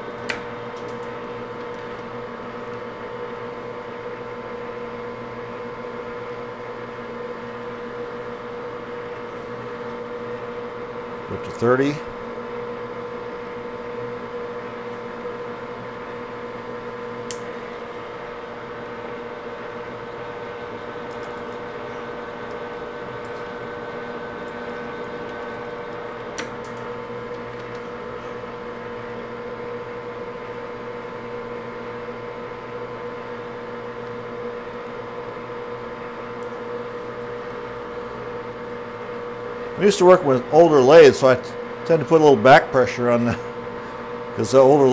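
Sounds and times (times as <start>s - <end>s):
lathe gear train humming: 0.0s - 44.9s.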